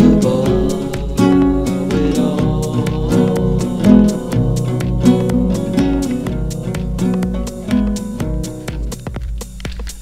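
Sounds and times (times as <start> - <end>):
strummed guitar with steady beat: 0.0 - 10.0.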